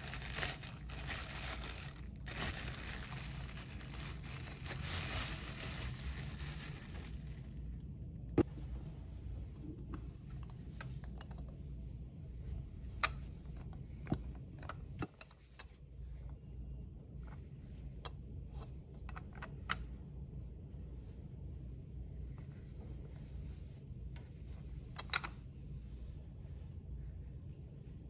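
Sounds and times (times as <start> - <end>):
low steady background hum: 0.0 - 28.0.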